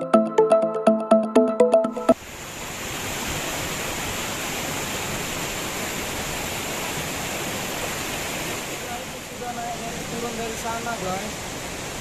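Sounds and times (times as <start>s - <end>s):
stream rushing over rocks: 2.2s - 12.0s.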